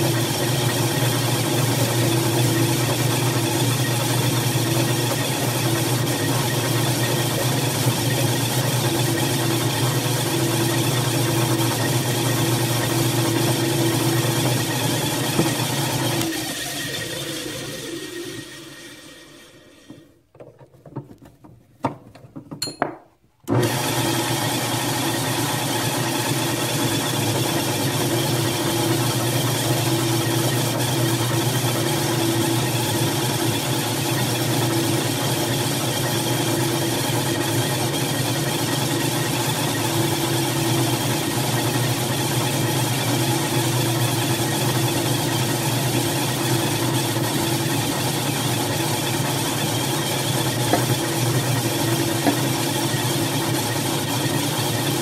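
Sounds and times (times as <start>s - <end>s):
drill press motor hum: 0.0s - 20.3s, 23.5s - 55.0s.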